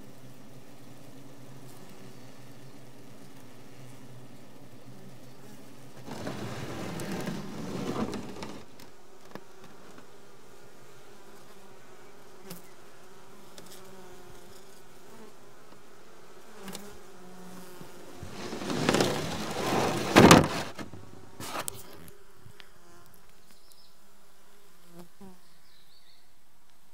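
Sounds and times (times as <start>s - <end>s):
honeybees buzzing: 0.0s - 26.9s.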